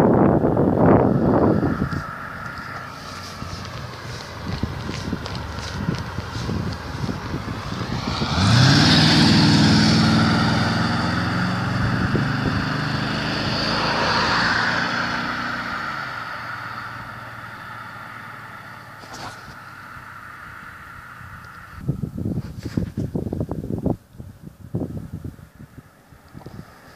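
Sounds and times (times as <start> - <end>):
car engine accelerating: 0.0 - 21.8.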